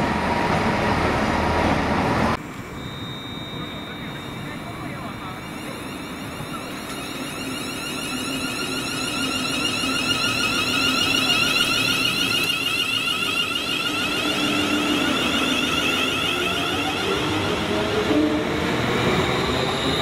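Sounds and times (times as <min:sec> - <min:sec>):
electric train inverter whine: 0:00.0 - 0:20.0.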